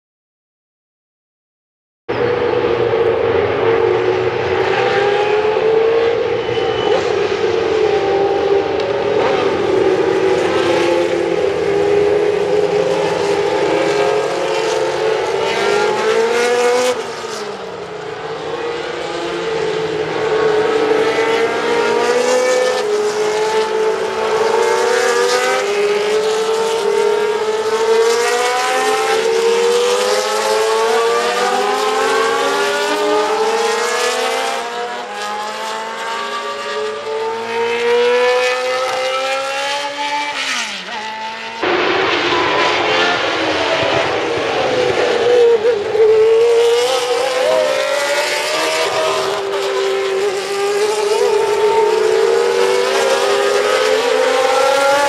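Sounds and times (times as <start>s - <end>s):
racing cars revving past: 2.1s - 55.0s.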